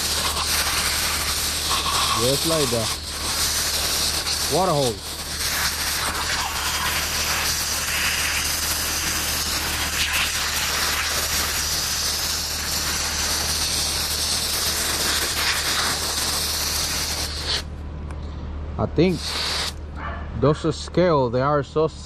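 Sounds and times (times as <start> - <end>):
hose nozzle spraying water: 0.0 - 17.7, 19.1 - 19.8.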